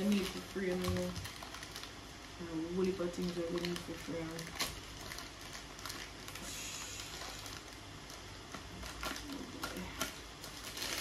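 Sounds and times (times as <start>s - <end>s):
plastic packaging rustling: 0.0s - 11.0s
sharp plastic crackles: 0.0s - 11.0s.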